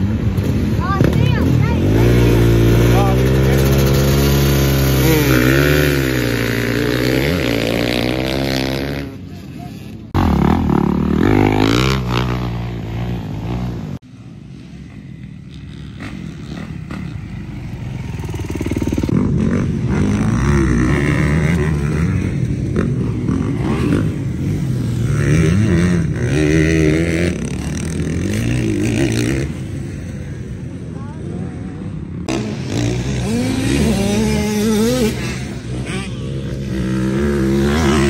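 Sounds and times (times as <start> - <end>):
dirt bike revving close by: 0.0 - 38.0
dirt bikes accelerating around track: 0.0 - 38.0.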